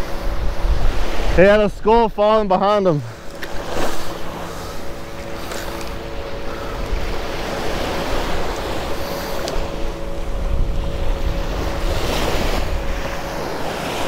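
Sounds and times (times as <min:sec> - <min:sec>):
wind buffeting microphone: 0:00.0 - 0:02.2, 0:03.3 - 0:14.0
waves washing onto sand: 0:00.0 - 0:14.0.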